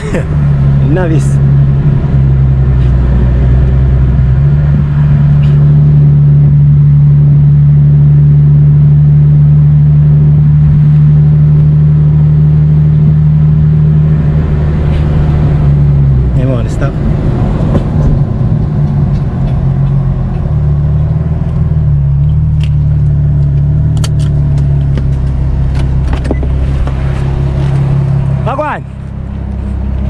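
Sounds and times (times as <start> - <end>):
car engine and exhaust drone: 0.0 - 30.0.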